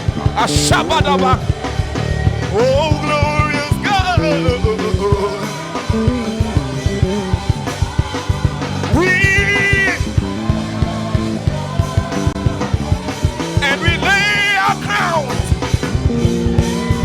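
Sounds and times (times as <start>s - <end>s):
drums: 0.0s - 17.0s
live band playing: 0.0s - 17.0s
sustained bass notes: 0.0s - 17.0s.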